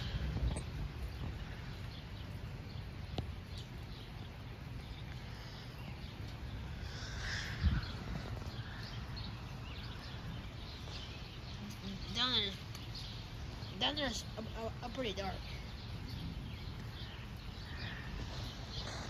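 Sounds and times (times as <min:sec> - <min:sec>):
birds calling: 0:00.0 - 0:19.0
storm rumble: 0:00.0 - 0:19.0.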